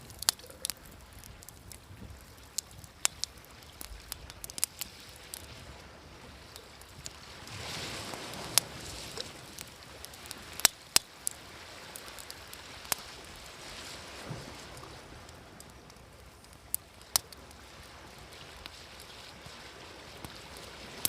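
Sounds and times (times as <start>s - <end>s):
waves on a shore: 0.0s - 21.0s
wood fire crackling: 0.0s - 21.0s.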